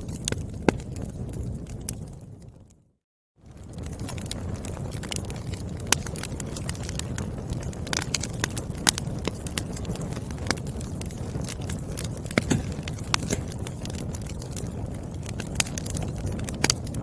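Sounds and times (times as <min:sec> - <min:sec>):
firewood crackling and popping: 0:00.0 - 0:02.8, 0:03.4 - 0:17.0.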